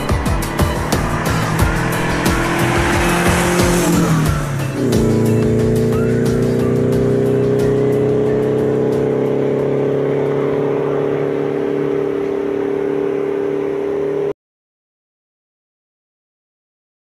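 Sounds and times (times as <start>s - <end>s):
sustained music chord: 0.0s - 14.0s.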